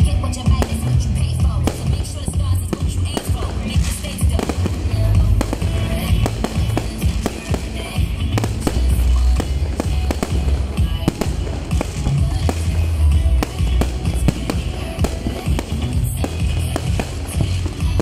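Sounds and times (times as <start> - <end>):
fireworks bangs and crackles: 0.0 - 18.0
loud music with heavy bass: 0.0 - 18.0.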